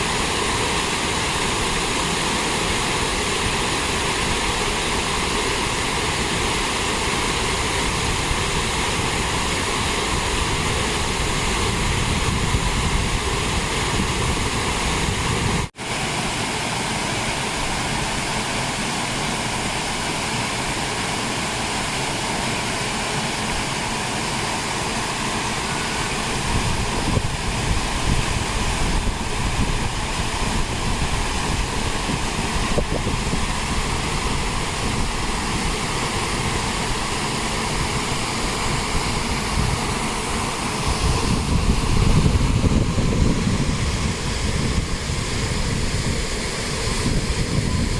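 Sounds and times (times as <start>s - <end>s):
waterfall rushing water: 0.0s - 47.9s.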